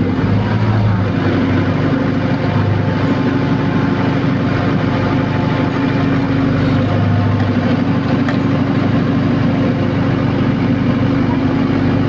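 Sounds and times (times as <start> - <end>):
heavy engine humming: 0.0 - 12.0.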